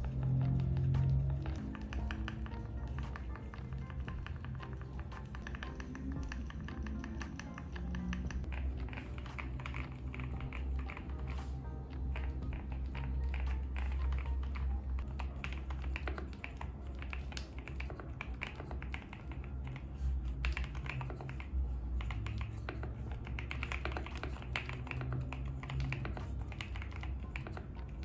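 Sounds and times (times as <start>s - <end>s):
mechanical keyboard typing: 0.0s - 28.0s.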